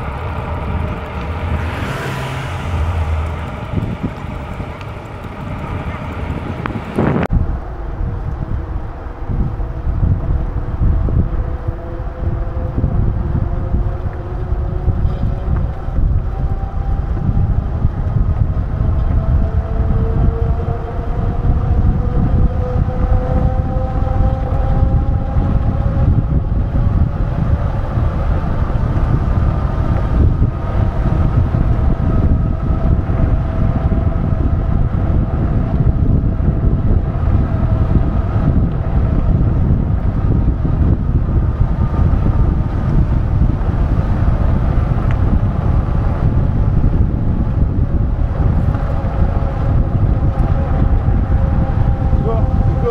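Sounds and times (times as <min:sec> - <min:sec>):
faint rising whine: 0:00.0 - 0:52.9
wind buffeting microphone: 0:00.0 - 0:52.9.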